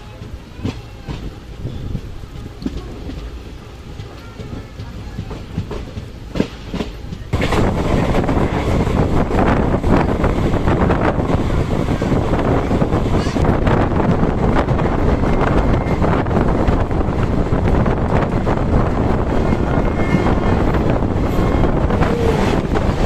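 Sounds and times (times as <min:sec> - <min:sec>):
dense rush of train noise: 0:00.0 - 0:23.0
train coaches rolling with rumble: 0:00.0 - 0:23.0
wheels clacking over rail joints: 0:00.0 - 0:23.0.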